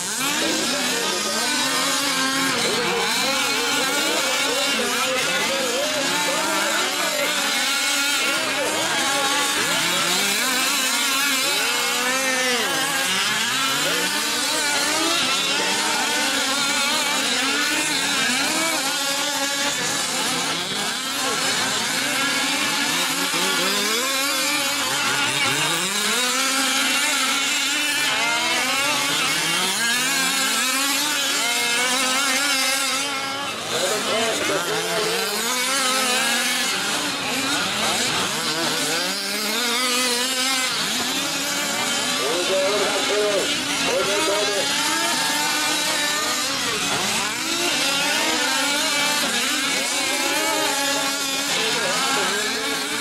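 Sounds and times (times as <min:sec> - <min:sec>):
small gas engines revving: 0:00.0 - 0:53.0.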